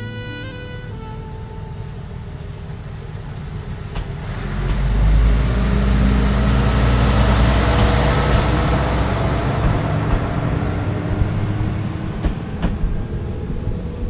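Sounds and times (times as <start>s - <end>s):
diesel railcar engine rumbling: 0.0s - 14.0s.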